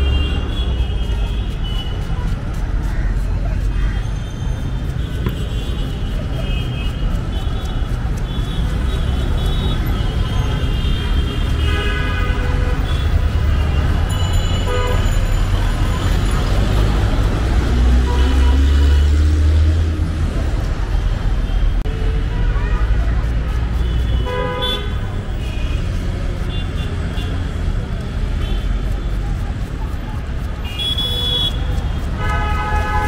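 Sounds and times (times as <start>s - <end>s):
passing vehicles rumbling: 0.0s - 33.0s.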